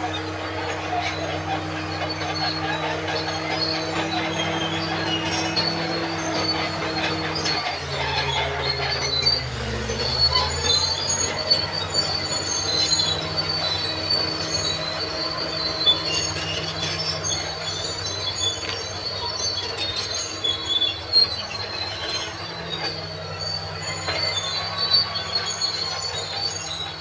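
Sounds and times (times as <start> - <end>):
bulldozer diesel engine: 0.0 - 27.0
steel tracks squealing and clanking: 0.0 - 27.0.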